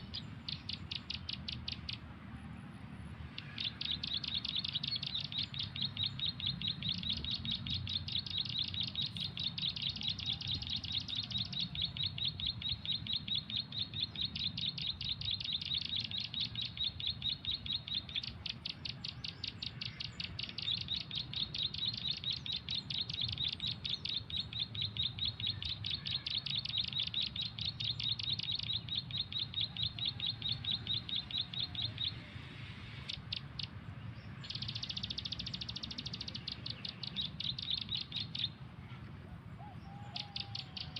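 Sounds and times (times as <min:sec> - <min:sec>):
recorded bird chirps: 0:00.0 - 0:40.9.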